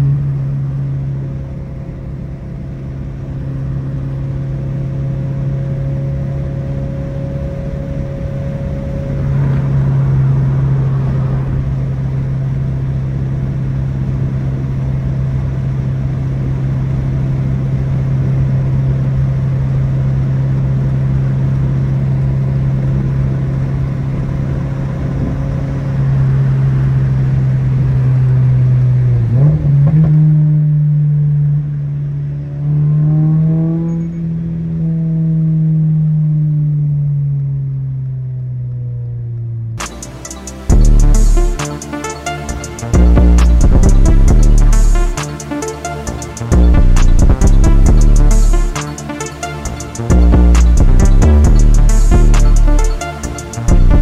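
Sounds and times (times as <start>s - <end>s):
car exhaust drone: 0.0s - 54.0s.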